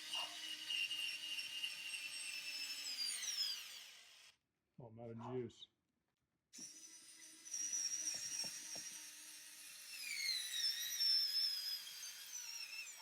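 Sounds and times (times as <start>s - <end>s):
cordless drill motor whine: 0.0s - 4.3s, 6.6s - 13.0s.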